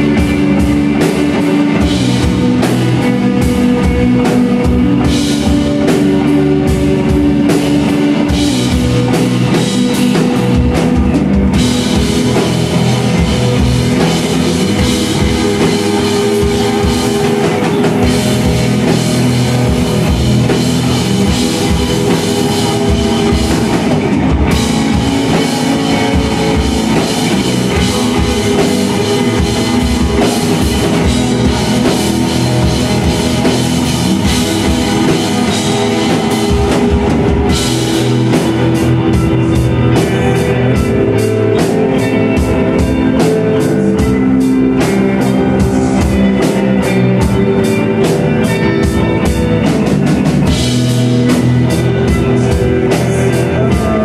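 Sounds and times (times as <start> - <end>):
drum kit beats: 0.0 - 54.0
electric guitars: 0.0 - 54.0.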